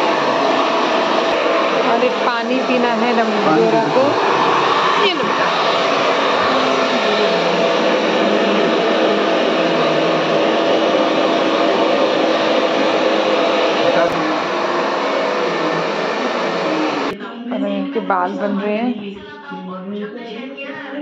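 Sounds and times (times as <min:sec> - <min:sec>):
electric appliance motor whirring: 0:00.0 - 0:17.2.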